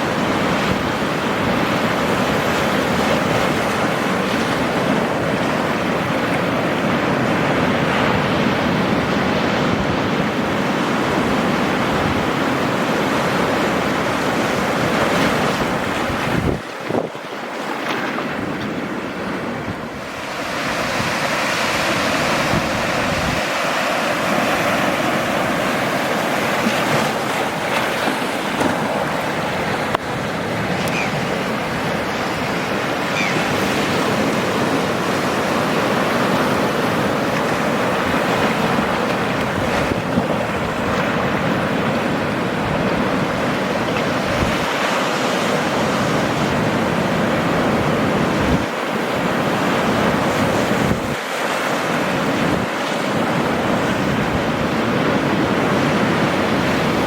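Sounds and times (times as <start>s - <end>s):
wind noise: 0.0s - 17.3s, 17.9s - 51.2s
ocean waves breaking: 0.0s - 57.0s.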